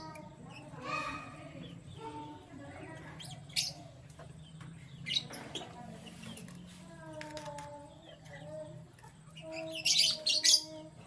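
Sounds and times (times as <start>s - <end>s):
canaries chirping: 0.0s - 11.0s.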